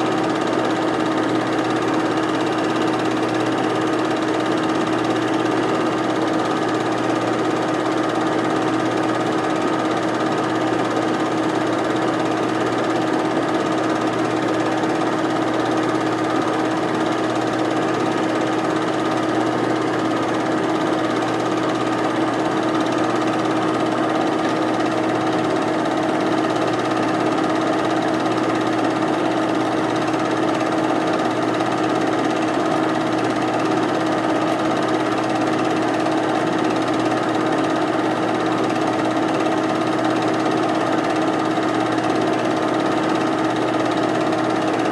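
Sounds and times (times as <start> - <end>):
film projector motor hum: 0.0 - 44.9.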